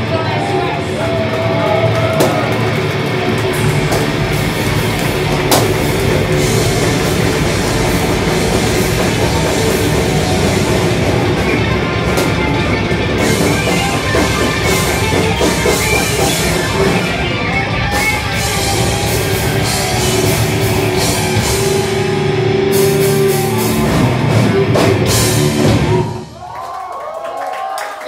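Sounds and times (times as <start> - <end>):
metal band playing live: 0.0 - 26.4.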